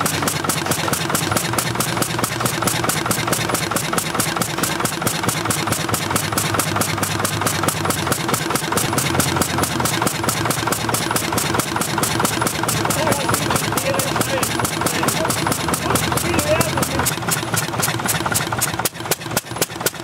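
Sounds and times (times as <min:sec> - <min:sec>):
old stationary engine running: 0:00.0 - 0:20.0.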